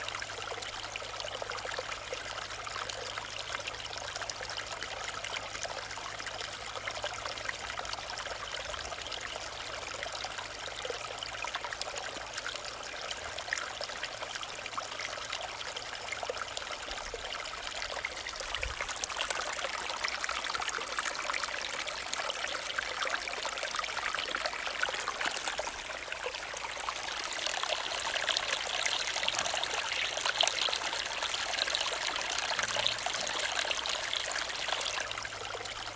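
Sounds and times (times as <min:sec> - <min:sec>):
stream gurgling and trickling: 0:00.0 - 0:35.9.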